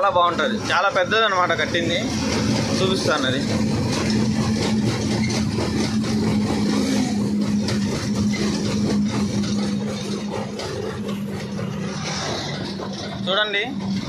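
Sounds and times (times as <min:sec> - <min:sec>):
road noise: 0:00.0 - 0:14.0
truck diesel engine running: 0:00.0 - 0:14.0.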